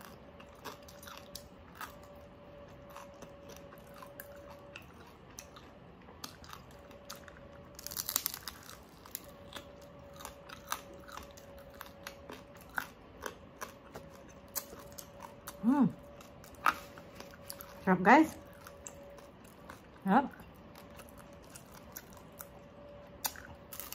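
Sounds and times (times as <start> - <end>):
crunchy pork skin chewing: 0.0 - 23.9
faint steady hum: 0.0 - 23.9.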